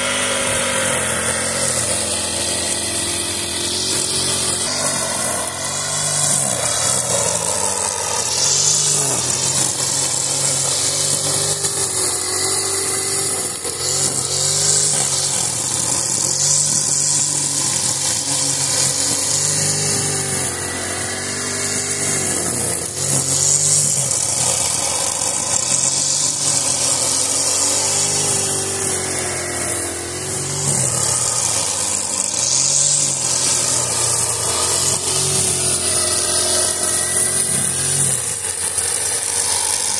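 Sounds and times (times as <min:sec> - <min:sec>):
brushcutter engine running: 0:00.0 - 0:39.9
trimmer line slashing grass: 0:00.0 - 0:39.9.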